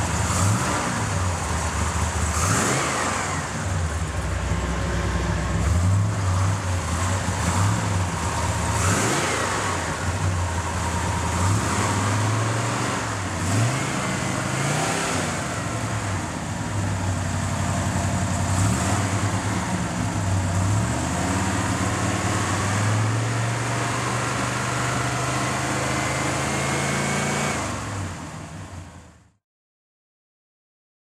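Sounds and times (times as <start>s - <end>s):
engine running at low speed: 0.0s - 29.4s.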